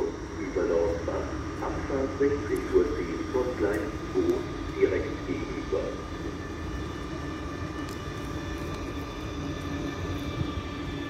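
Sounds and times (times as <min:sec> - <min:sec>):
vehicle running hum: 0:00.0 - 0:11.0.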